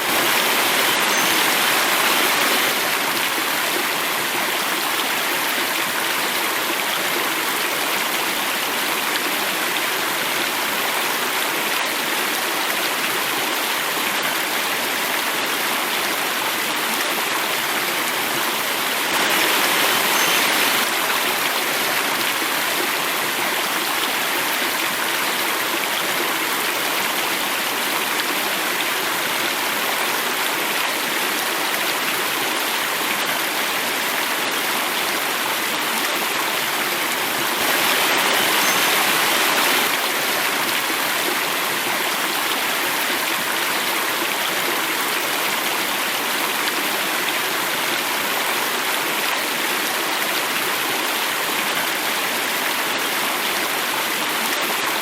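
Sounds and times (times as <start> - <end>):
stream water rushing over cascade: 0.0 - 55.0.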